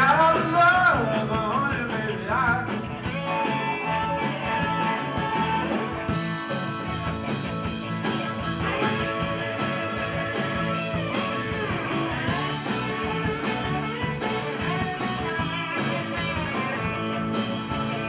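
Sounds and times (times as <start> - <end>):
guitar lead line bending: 0.0 - 18.0
live rock band playing: 0.0 - 18.0.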